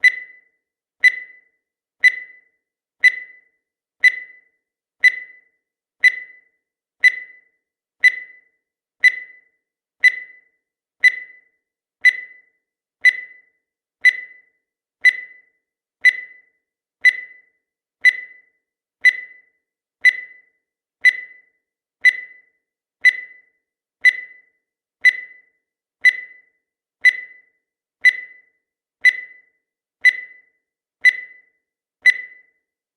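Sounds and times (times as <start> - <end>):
high-pitched electronic tick-beep: 0.0 - 32.8.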